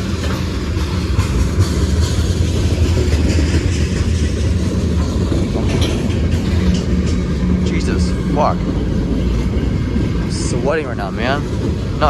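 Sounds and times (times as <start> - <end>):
freight train rumbling past: 0.0 - 12.0
wheels clicking over rail joints: 0.0 - 12.0.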